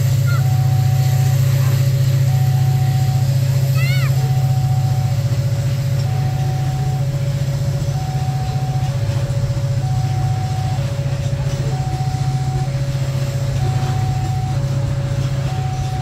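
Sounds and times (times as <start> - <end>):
train wagons rumbling past: 0.0 - 16.0
two-tone crossing alarm: 0.0 - 16.0.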